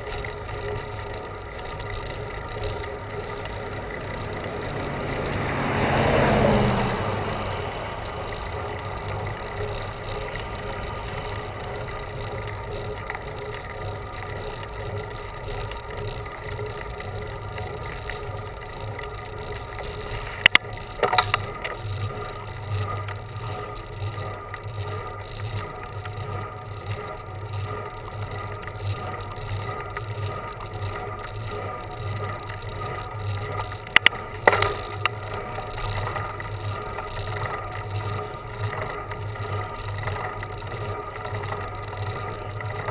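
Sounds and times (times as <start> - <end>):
bicycle tyres humming: 0.0 - 42.9
sharp clicks: 0.1 - 26.2, 26.8 - 42.9.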